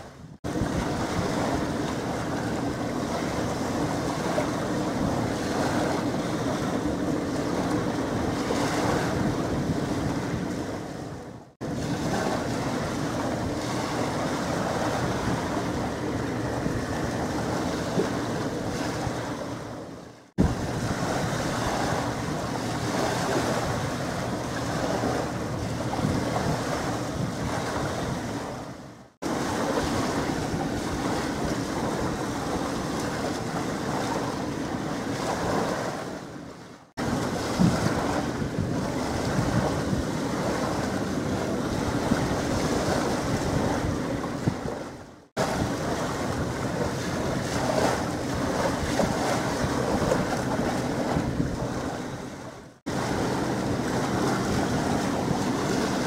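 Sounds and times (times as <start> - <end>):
harbour water rumble: 0.0 - 56.0
wind buffeting microphone: 0.0 - 56.0.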